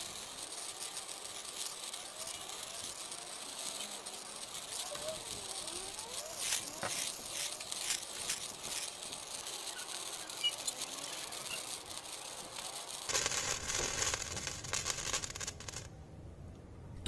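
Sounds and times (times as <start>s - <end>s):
sparkler fizzing and crackling: 0.0s - 15.9s.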